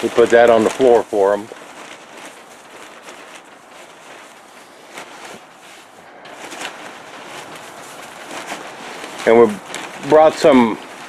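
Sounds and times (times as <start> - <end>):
plastic wrapping rustling and crinkling: 0.0 - 11.0.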